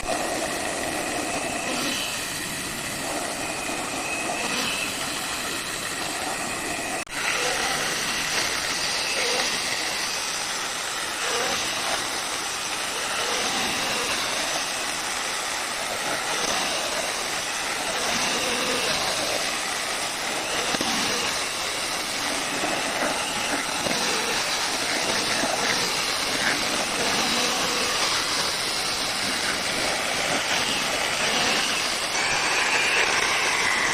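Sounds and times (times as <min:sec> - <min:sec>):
electric saw cutting timber: 0:00.0 - 0:33.9.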